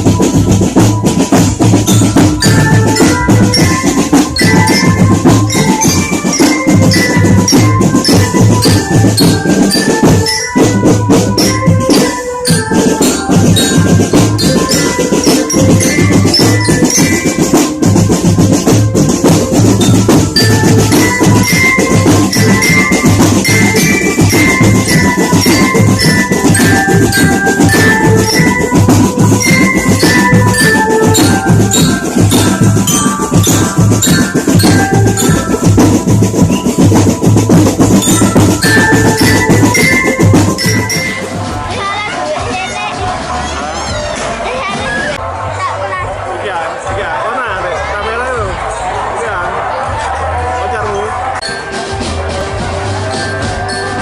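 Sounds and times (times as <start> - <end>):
marching drum beat: 0.0 - 43.3
bell-like mallet melody: 0.0 - 43.5, 51.3 - 54.0.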